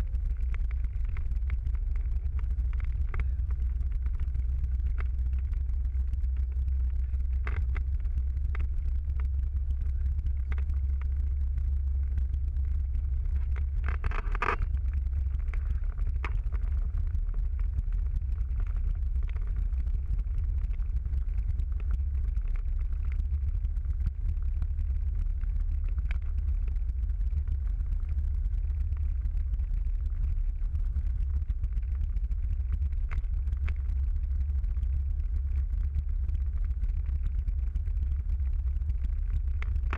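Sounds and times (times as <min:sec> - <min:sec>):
car interior rumble: 0:00.0 - 0:39.9
faint ticks: 0:00.0 - 0:39.9
rattle: 0:00.0 - 0:39.9.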